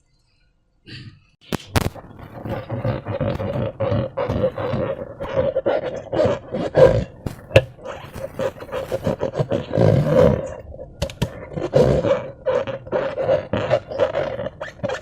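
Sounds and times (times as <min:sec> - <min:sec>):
slime squelching: 0:01.6 - 0:15.0.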